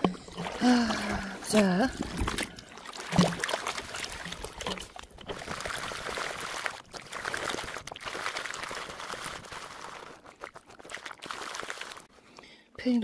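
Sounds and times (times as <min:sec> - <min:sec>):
stream running: 0:00.0 - 0:12.2
water and gravel sloshing in pan: 0:00.1 - 0:12.3.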